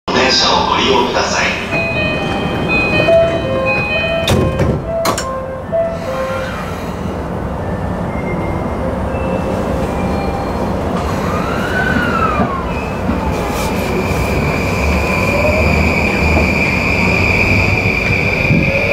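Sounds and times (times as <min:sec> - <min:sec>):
electric train wheels rumbling: 0:00.1 - 0:18.9
train inverter whine: 0:00.1 - 0:18.9.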